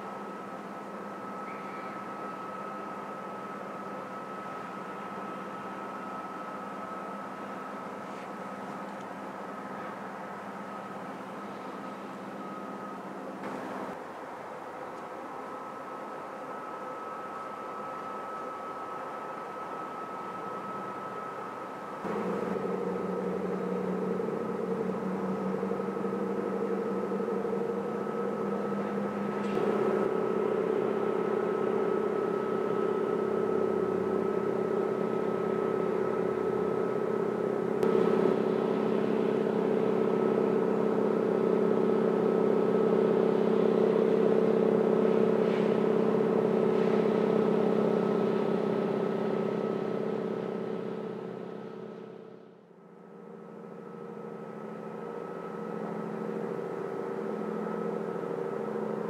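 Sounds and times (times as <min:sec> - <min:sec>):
boat diesel engine hum: 0:00.0 - 0:59.0.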